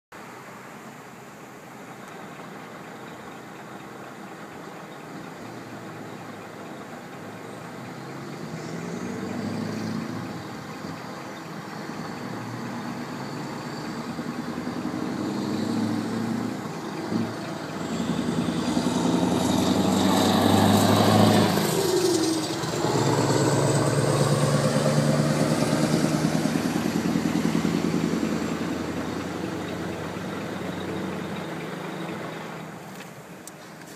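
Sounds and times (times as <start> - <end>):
truck engine pulling hard: 2.2 - 33.5.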